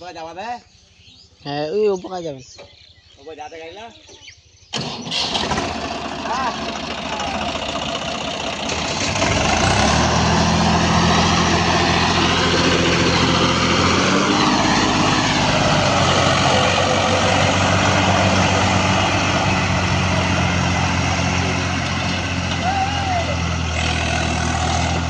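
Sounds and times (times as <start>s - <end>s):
diesel tractor engine running: 4.7s - 25.0s.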